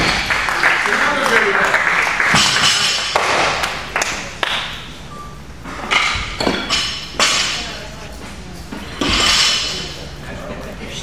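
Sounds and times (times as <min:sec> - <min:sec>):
gym chatter: 0:00.0 - 0:11.0.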